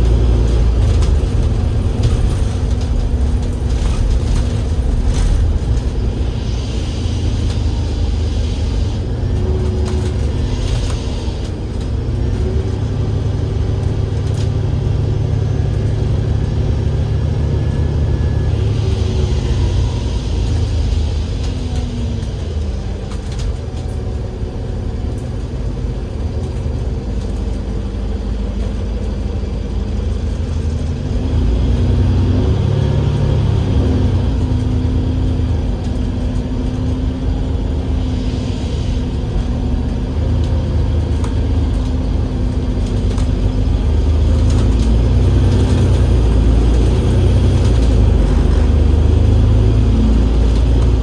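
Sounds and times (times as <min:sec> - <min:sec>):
bus engine rumbling: 0:00.0 - 0:51.0.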